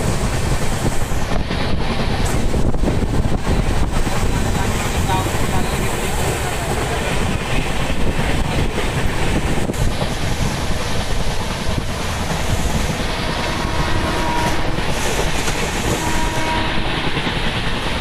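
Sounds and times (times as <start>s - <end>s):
train wheels rumbling on rail: 0.0s - 18.0s
wind noise: 0.0s - 18.0s.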